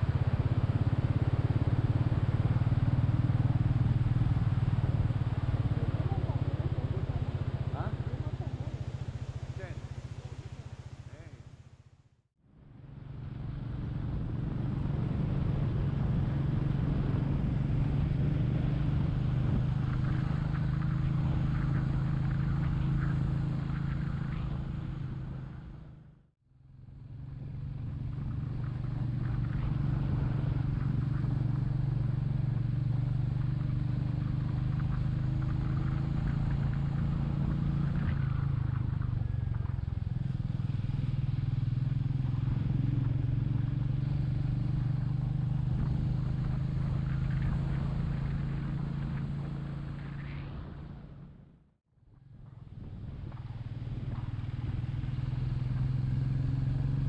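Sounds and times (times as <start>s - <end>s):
motorcycle engine running: 0.0s - 12.1s, 12.8s - 51.3s, 52.1s - 57.0s.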